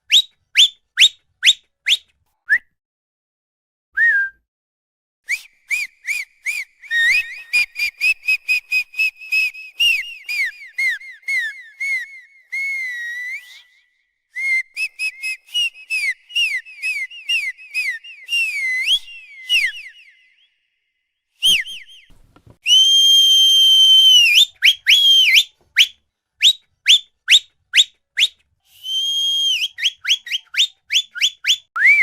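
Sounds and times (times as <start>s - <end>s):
high whistled chirps: 0.0s - 2.1s, 5.3s - 32.0s.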